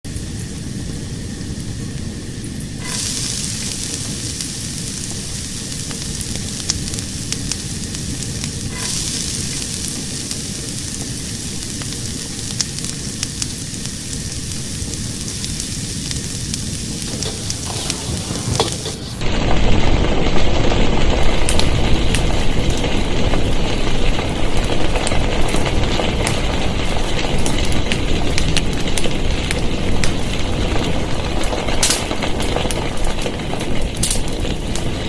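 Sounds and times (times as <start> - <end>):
fire burning with crackles: 0.0 - 35.0.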